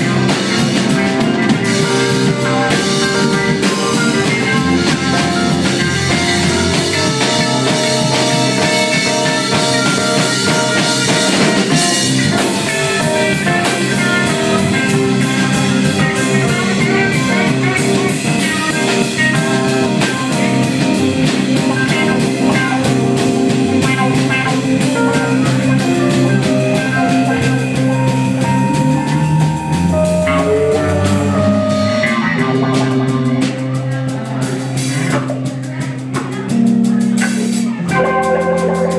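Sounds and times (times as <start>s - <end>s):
electric guitar sustained notes: 0.0s - 35.4s, 36.6s - 38.9s
drum kit fast beat: 0.0s - 38.9s.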